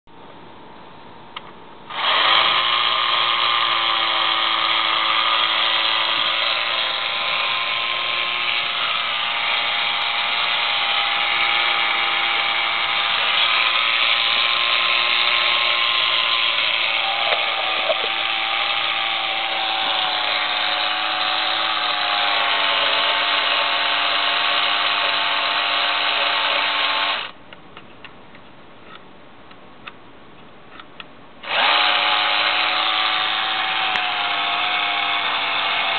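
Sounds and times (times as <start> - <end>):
small electric motor whining: 1.9 - 27.4, 31.4 - 35.9.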